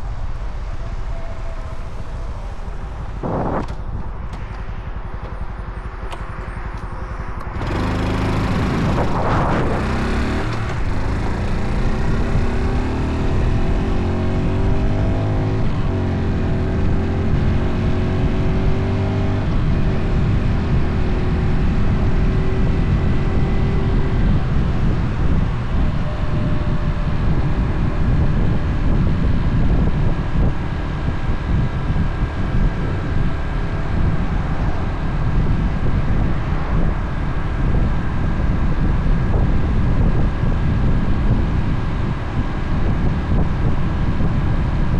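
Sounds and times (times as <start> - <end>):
wind rush on microphone: 0.0 - 44.9
motorcycle engine accelerating: 5.3 - 44.9.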